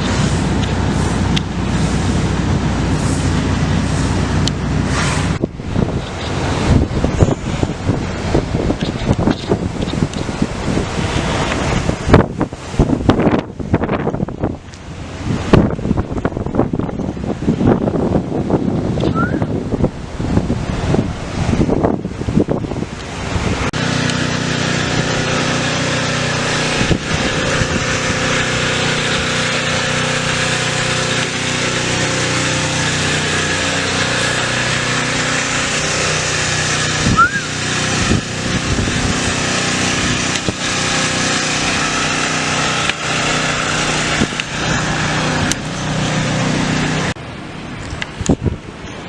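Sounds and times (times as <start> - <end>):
road and wind noise: 0.0 - 49.0
vehicle engine hum: 0.0 - 49.0.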